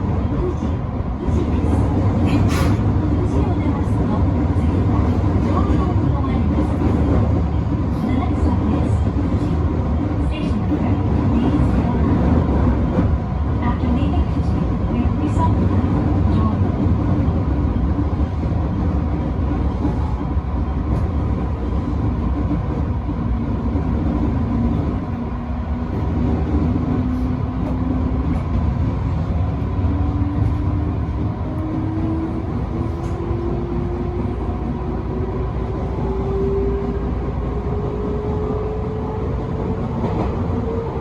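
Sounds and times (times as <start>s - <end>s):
train wheels rumbling: 0.0s - 41.0s.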